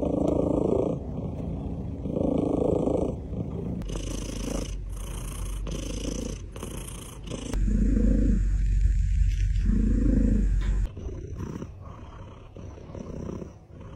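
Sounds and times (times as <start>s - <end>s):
cat purring: 0.0s - 13.9s.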